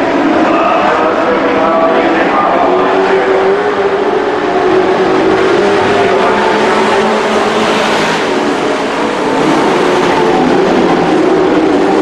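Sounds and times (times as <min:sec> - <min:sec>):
race truck engines roaring: 0:00.0 - 0:12.0.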